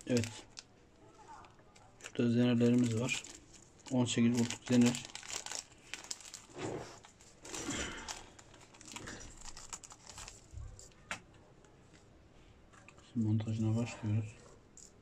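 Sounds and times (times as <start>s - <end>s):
crinkling and rustling: 0.0s - 13.1s.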